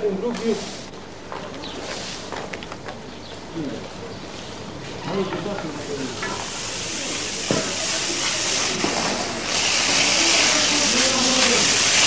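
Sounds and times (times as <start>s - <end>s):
steady loud hiss: 0.0s - 12.0s.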